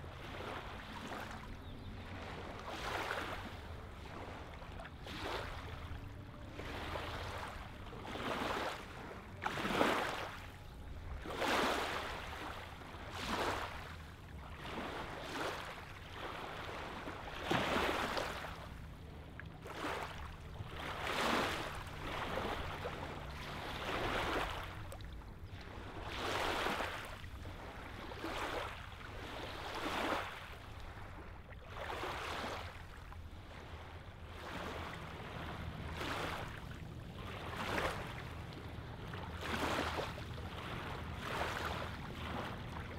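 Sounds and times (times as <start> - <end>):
wavelets lapping on shore: 0.0 - 42.9.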